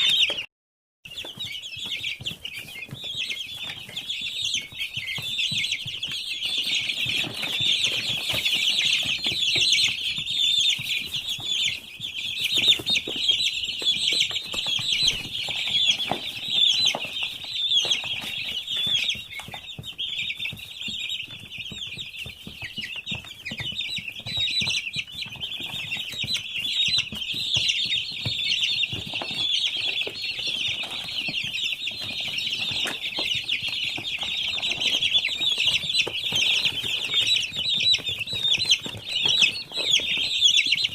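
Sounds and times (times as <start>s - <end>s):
chicks peeping: 0.0s - 0.5s, 1.1s - 40.9s
taps and rustles: 1.1s - 40.9s.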